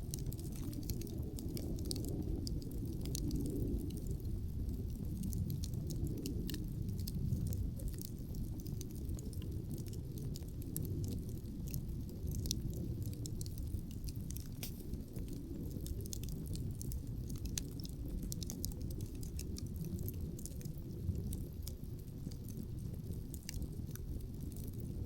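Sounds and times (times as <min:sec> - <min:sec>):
low wind rumble: 0:00.0 - 0:25.0
wood fire crackling and popping: 0:00.0 - 0:25.0.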